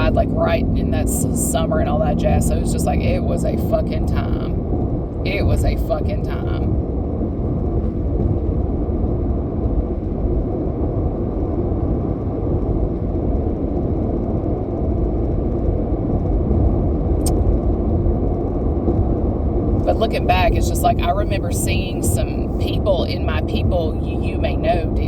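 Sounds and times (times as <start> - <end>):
low rumbling noise: 0.0 - 25.0.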